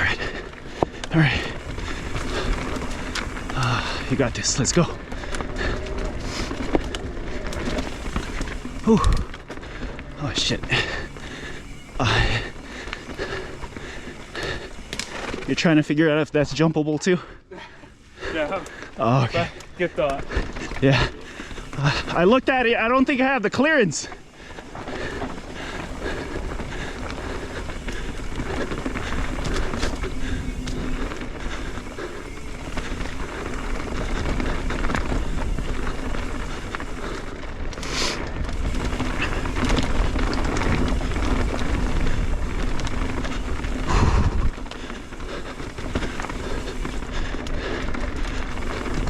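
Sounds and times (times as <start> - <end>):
bike rattling and knocking: 0.0 - 49.0
bike tyres rolling over rock: 0.0 - 49.0.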